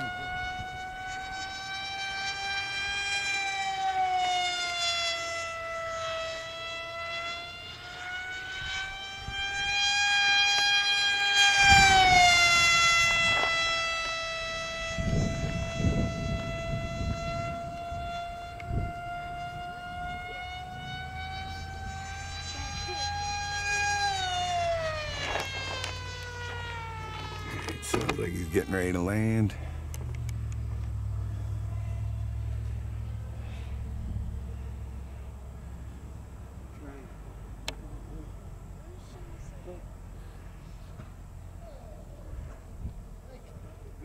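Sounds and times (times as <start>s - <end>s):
model plane propeller whining: 0.0s - 44.0s.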